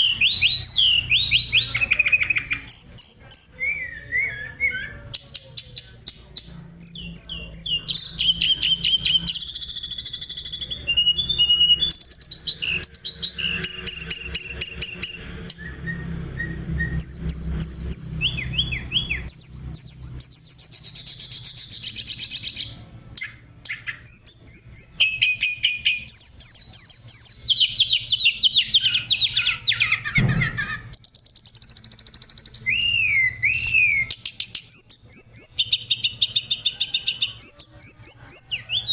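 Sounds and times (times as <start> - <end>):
songbird singing trills and whistles: 0.0 - 38.9.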